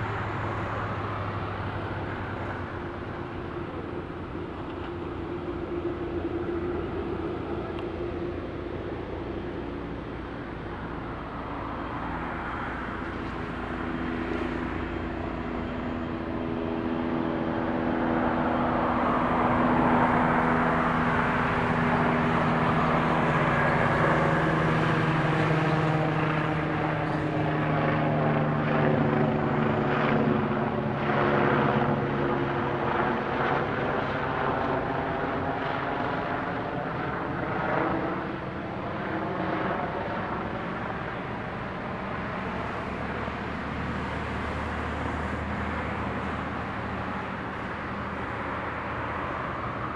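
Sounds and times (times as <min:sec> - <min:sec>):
jet engines humming: 0:00.0 - 0:49.9.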